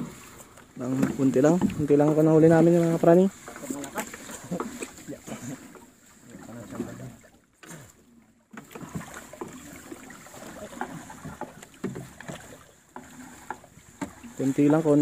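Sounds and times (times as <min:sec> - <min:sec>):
water splashing against boat: 0:00.0 - 0:15.0.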